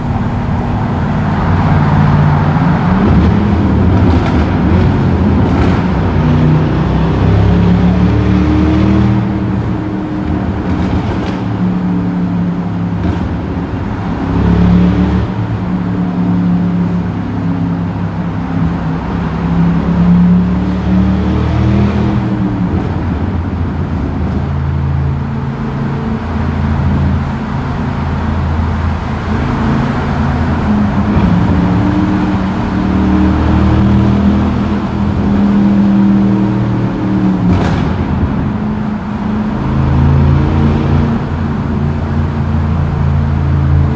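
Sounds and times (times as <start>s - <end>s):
car engine revving in tunnel: 0.0s - 43.9s.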